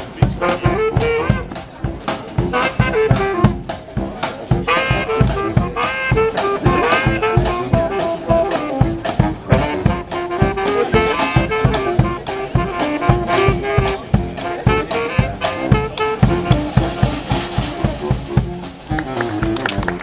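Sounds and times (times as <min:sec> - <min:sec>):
dixieland marching band: 0:00.0 - 0:20.0.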